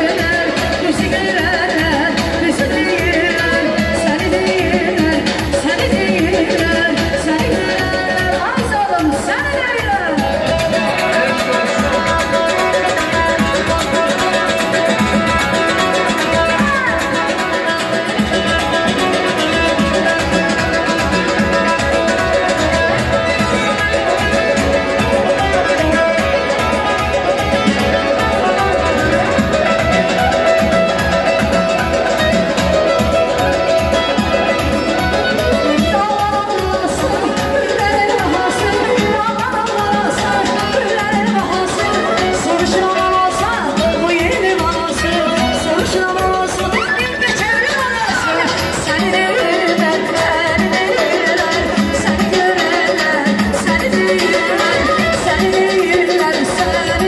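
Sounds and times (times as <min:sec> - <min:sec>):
folk music on long-necked lute: 0:09.3 - 0:57.0.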